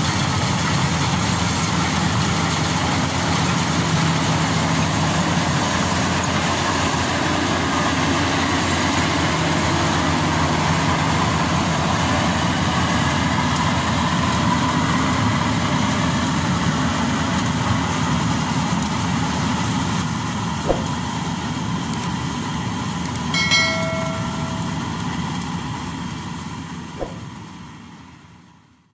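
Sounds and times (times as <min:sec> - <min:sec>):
combine harvester running: 0:00.0 - 0:28.8.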